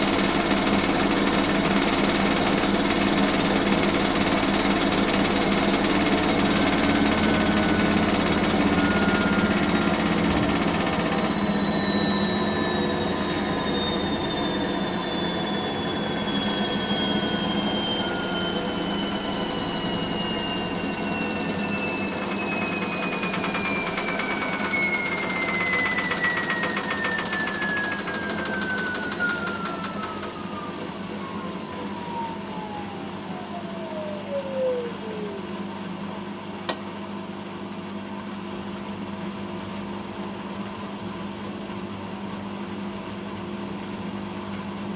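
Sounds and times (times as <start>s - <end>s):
low machine hum: 0.0s - 44.9s
washing machine motor whine: 0.0s - 44.9s.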